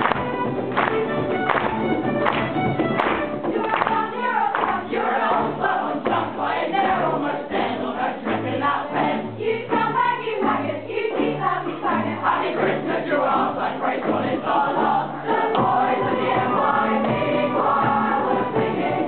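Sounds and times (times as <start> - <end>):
string ensemble playing: 0.0 - 7.8, 8.6 - 19.0
choir singing: 3.5 - 19.0.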